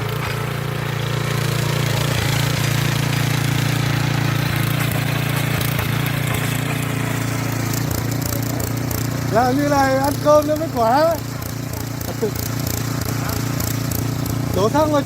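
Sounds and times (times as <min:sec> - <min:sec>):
power harrow engine churning soil: 0:00.0 - 0:15.0.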